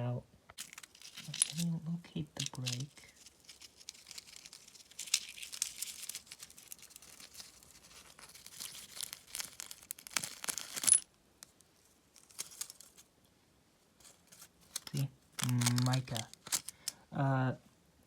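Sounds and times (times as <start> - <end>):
crinkling scratching rustle: 0.6 - 13.1, 14.0 - 17.0.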